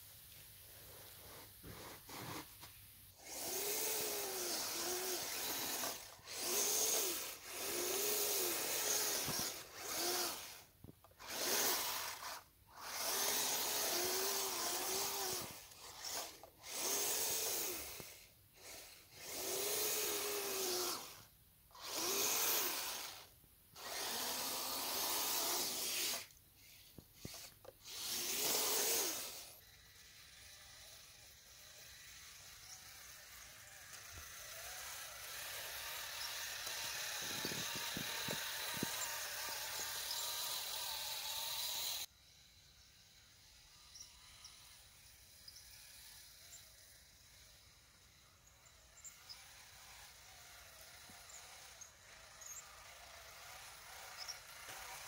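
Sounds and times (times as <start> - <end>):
toy vehicle motor whining: 0.7 - 55.0.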